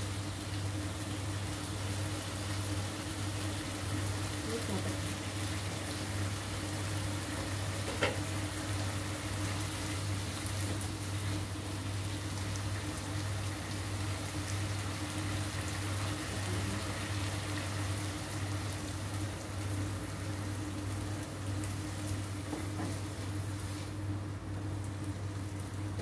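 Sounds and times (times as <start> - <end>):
stir-fry sizzling in a wok: 0.0 - 26.0.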